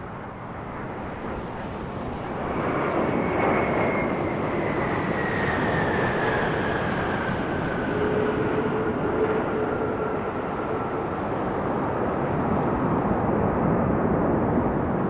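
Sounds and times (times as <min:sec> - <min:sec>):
jet engines rumbling: 0:00.0 - 0:15.0
jet fan whine: 0:00.0 - 0:15.0.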